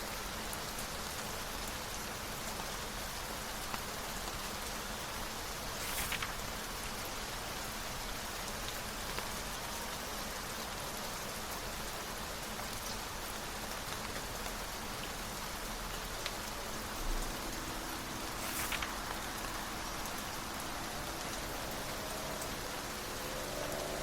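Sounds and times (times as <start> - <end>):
faint raindrop ticks: 0.0 - 24.0
steady rain hiss: 0.0 - 24.0.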